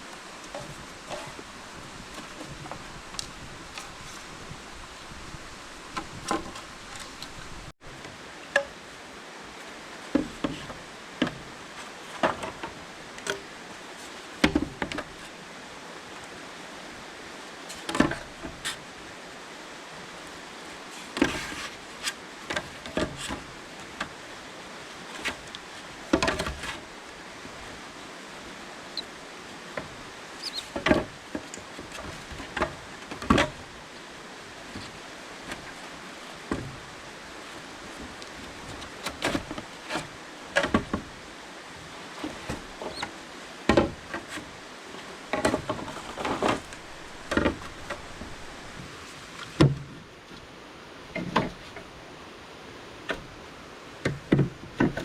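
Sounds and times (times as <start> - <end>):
rainforest ambience hiss: 0.0 - 55.0.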